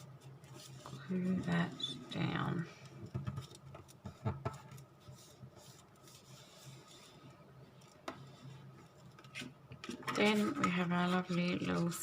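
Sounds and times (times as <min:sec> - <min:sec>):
paper rustling and rubbing: 0:00.0 - 0:02.6, 0:03.3 - 0:12.0.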